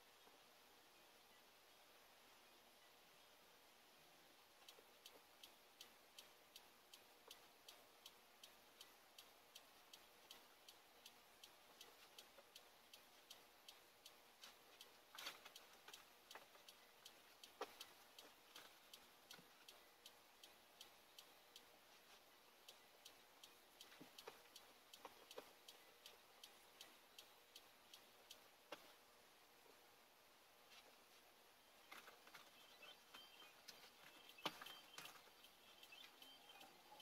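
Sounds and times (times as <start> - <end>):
faint clock ticking: 0.0 - 37.0.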